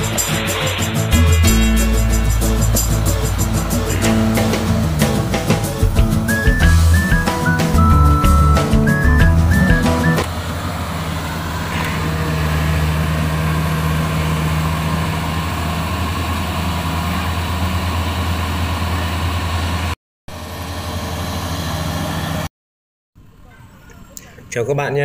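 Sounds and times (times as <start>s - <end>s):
combine harvester diesel engine drone: 0.0s - 22.5s.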